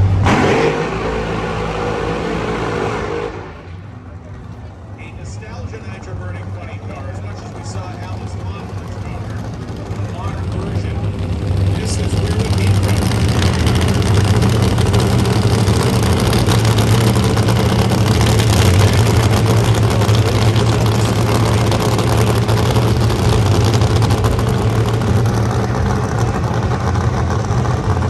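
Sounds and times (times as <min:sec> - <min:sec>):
car engine idling loudly: 0:00.0 - 0:28.0.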